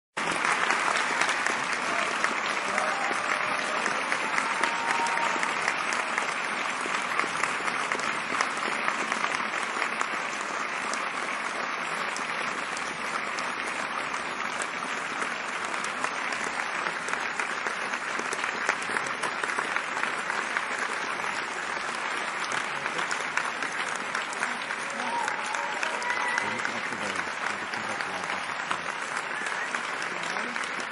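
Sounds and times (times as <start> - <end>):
audience applauding: 0.2 - 30.9.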